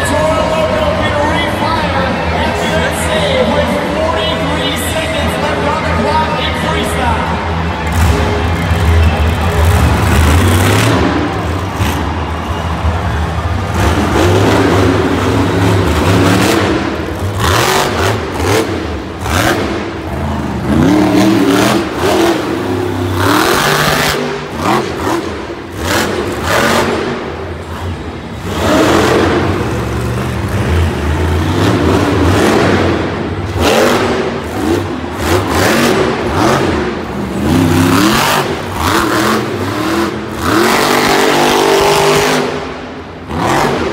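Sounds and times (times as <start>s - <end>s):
monster truck engine revving: 0.0s - 43.9s.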